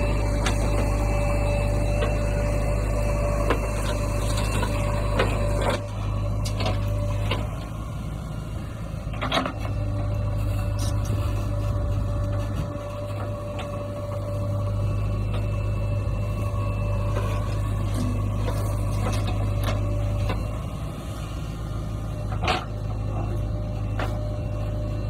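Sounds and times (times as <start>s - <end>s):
backhoe digging and dumping soil: 0.0s - 25.0s
diesel engine humming: 0.0s - 25.0s.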